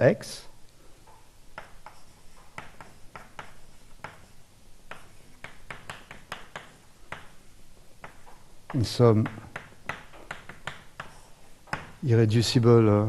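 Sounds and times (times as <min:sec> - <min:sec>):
chalk tapping on blackboard: 0:01.1 - 0:12.0.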